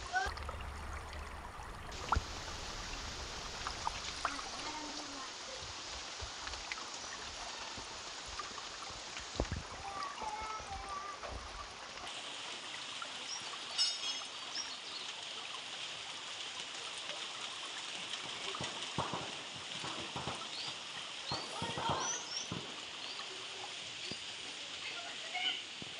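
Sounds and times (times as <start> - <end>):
rain falling on leaves: 0.0 - 25.9.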